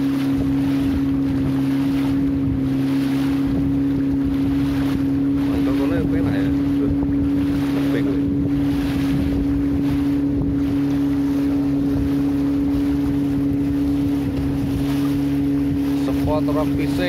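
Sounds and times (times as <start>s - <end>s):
engine running steadily: 0.0s - 17.0s
wind noise on microphone: 0.0s - 17.0s.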